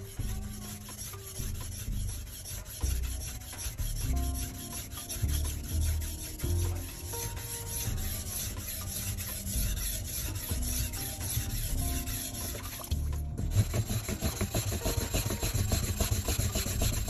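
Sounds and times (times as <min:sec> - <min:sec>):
knife scraped on whetstone: 0:00.0 - 0:17.0.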